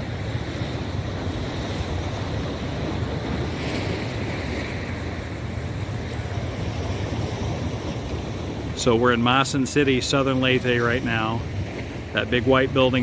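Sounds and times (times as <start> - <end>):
sea water washing: 0.0 - 13.0
wind buffeting microphone: 0.0 - 13.0.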